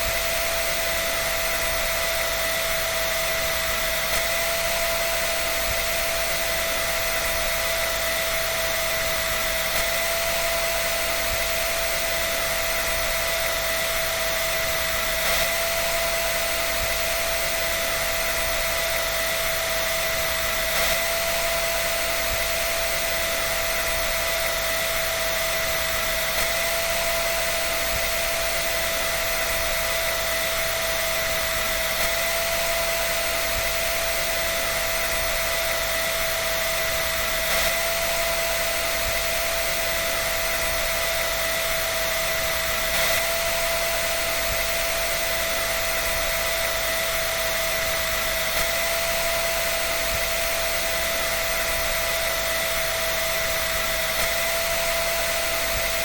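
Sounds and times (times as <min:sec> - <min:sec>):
electric dryer running: 0:00.0 - 0:56.0.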